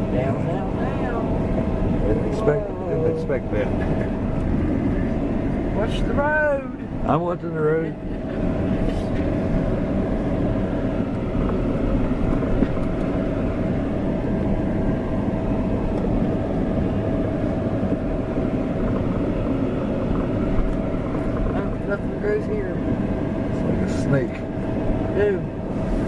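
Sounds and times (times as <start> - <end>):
engine and tyre rumble: 0.0 - 26.0
faint constant whine: 0.0 - 26.0.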